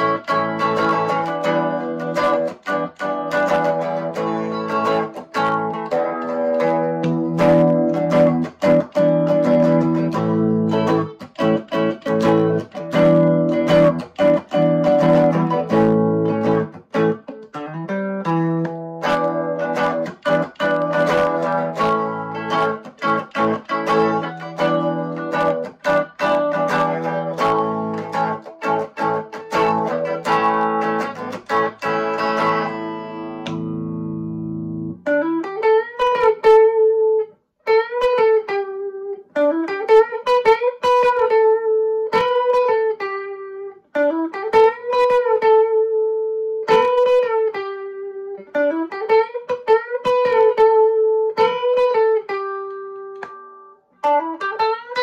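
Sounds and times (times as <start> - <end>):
electric guitar lick with bends: 0.0 - 55.0
electric guitar strummed chords: 0.0 - 55.0.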